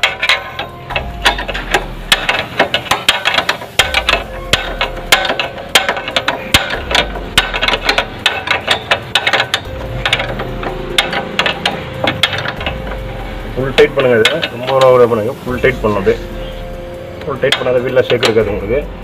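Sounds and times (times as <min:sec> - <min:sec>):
ratchet wrench clicking: 0:00.0 - 0:18.8.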